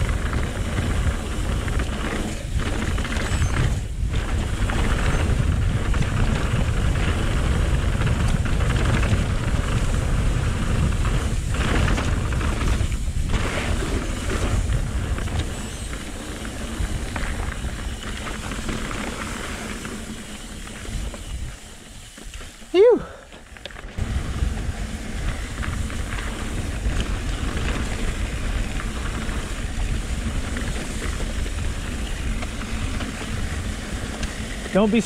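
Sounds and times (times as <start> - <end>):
wind buffeting microphone: 0.0 - 22.1, 23.9 - 35.0
bike tyres rattling over dirt trail: 0.0 - 35.0.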